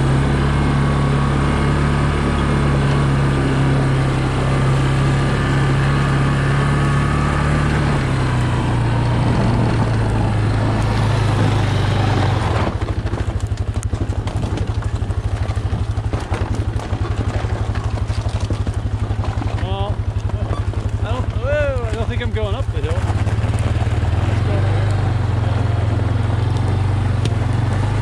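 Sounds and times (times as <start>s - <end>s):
atv engine idling: 0.0s - 28.0s.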